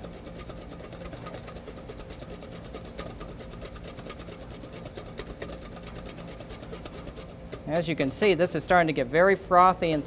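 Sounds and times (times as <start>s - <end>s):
whisk scraping metal bowl: 0.0s - 10.0s.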